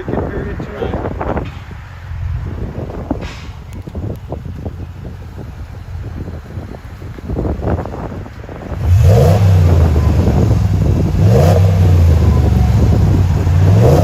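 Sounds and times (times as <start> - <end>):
truck engine accelerating hard: 1.0 - 14.0.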